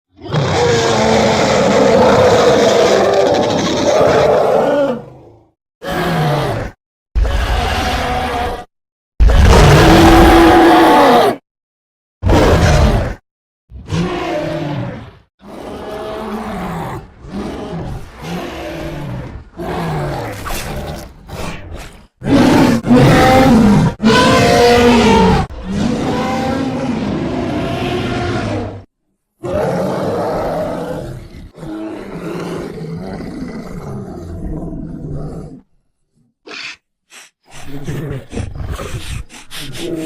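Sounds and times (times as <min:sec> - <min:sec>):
bear growls and roars: 0:00.1 - 0:11.4, 0:12.2 - 0:40.0.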